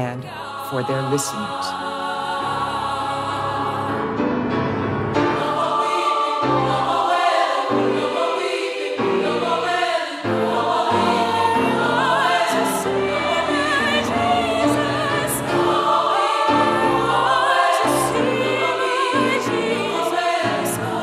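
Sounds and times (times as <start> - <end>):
women's choir singing: 0.0 - 21.0.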